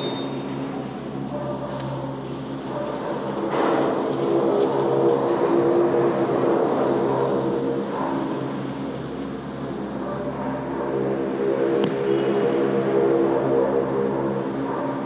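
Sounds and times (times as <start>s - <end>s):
cable car mechanical drone: 0.0s - 15.0s.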